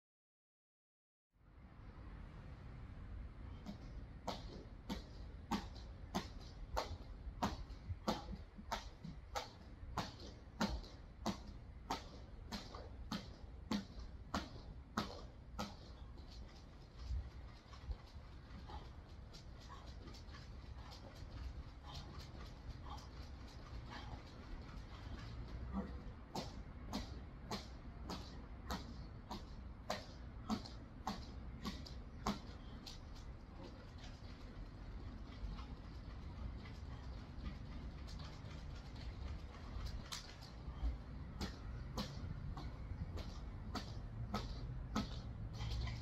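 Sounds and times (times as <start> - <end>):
battle rope slapping concrete: 3.6 - 46.0.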